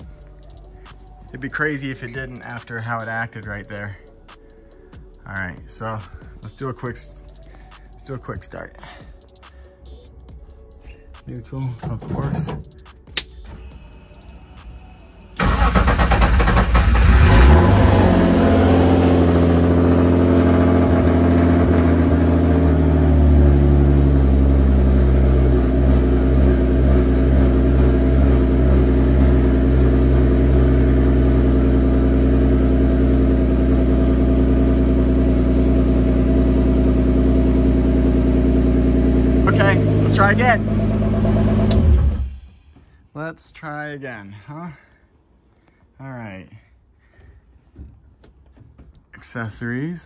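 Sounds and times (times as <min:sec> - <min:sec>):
car engine starting and idling: 0:00.0 - 0:43.0.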